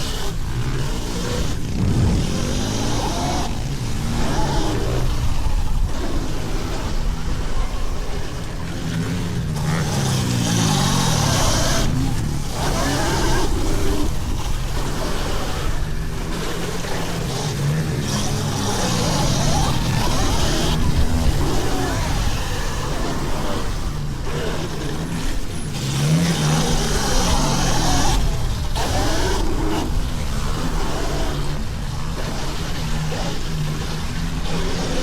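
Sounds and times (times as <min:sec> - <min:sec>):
motorbike engines revving: 0:00.0 - 0:35.0.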